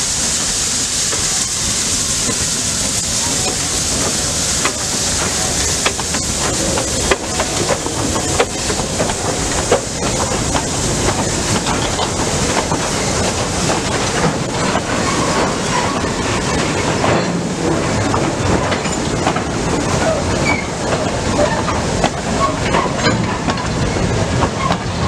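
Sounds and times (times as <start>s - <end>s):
train wagons rolling past: 0.0s - 25.0s
wheels clicking over rail joints: 2.2s - 25.0s.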